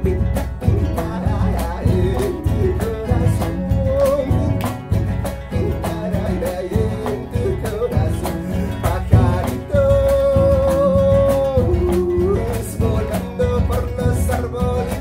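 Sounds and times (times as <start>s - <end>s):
country song with guitar: 0.0s - 15.0s
person singing: 0.0s - 15.0s.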